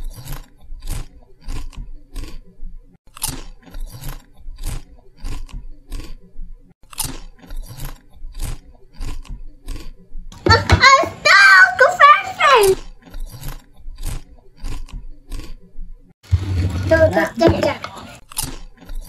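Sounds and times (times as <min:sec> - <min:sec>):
crunching and chewing crisp food: 0:00.0 - 0:10.3, 0:12.7 - 0:19.0.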